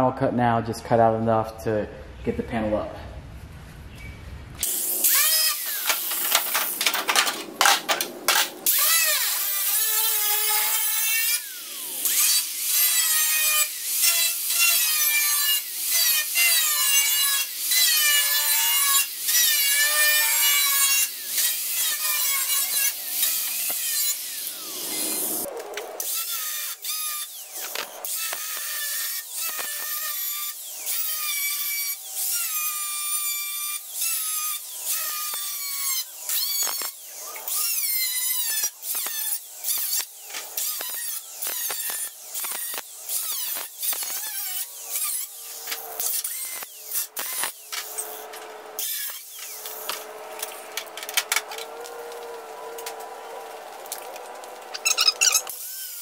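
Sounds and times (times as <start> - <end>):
angle grinder cutting metal: 4.6 - 56.0.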